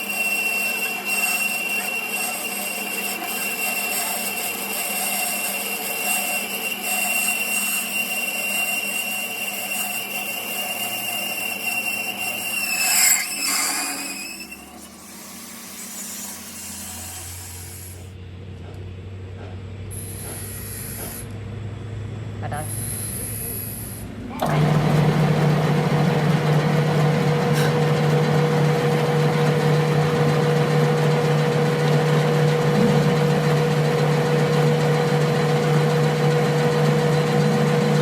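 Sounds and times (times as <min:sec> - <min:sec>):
power tool whining: 0:00.0 - 0:18.1, 0:22.5 - 0:38.0
low workshop noise: 0:00.0 - 0:38.0.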